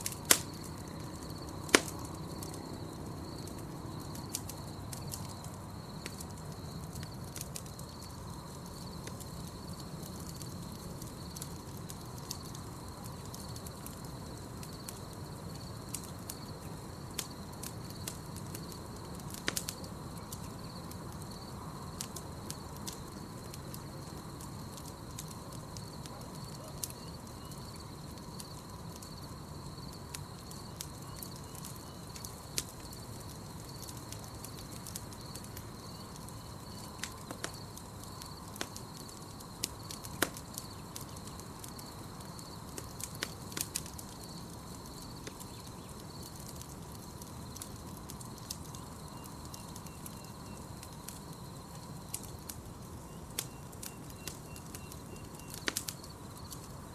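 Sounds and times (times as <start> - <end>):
campfire crackling and popping: 0.0 - 56.9
crickets chirring: 0.0 - 56.9.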